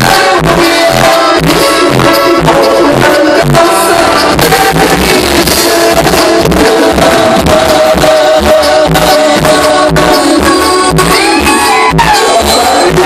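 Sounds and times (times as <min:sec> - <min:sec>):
live band music: 0:00.0 - 0:13.0
man singing into microphone: 0:00.0 - 0:13.0.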